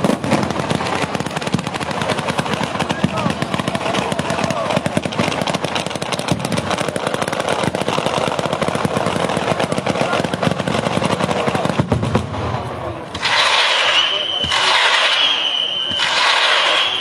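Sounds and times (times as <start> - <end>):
firecrackers banging rapidly: 0.0 - 17.0.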